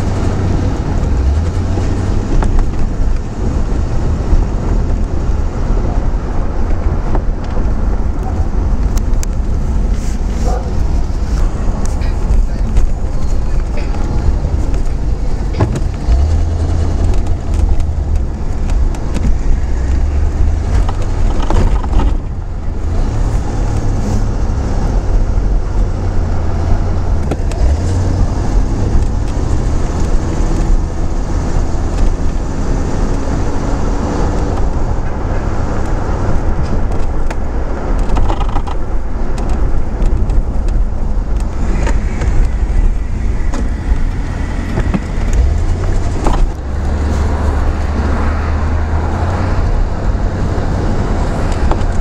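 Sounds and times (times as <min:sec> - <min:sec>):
car engine and road rumble: 0:00.0 - 0:52.0.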